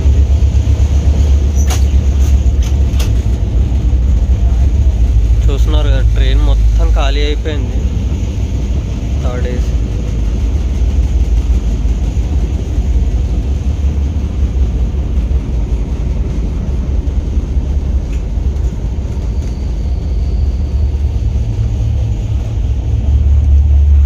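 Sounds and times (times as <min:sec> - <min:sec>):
train coach rumbling on track: 0:00.0 - 0:24.0.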